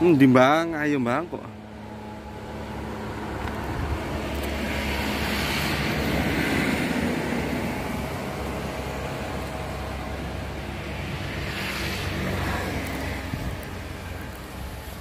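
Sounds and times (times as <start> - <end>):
vehicle passing close by: 1.5 - 15.0.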